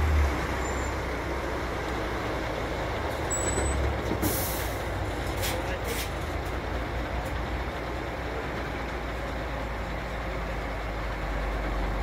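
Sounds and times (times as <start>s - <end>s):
diesel lorry engine rumbling: 0.0s - 12.0s.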